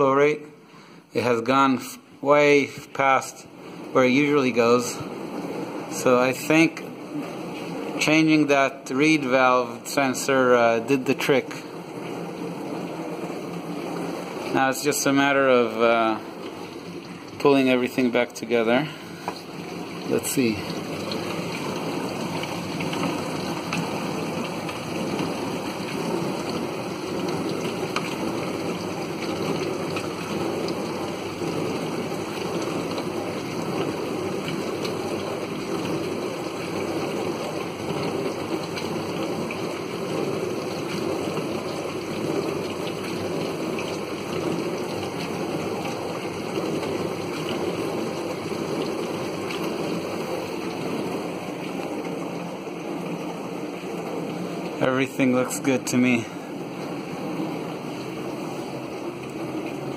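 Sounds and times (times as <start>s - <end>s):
dishwasher water spraying: 2.2s - 59.9s.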